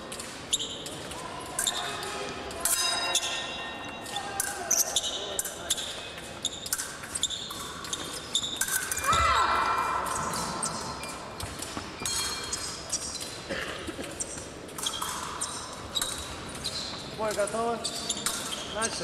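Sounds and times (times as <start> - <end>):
shoe squeaks: 0.5 - 0.9, 1.5 - 2.1, 2.9 - 9.4, 10.2 - 13.4, 14.2 - 19.0.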